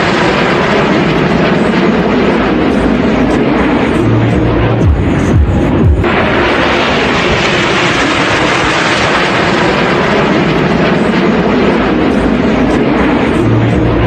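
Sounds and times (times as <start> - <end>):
jet engines flying overhead: 0.0 - 14.0.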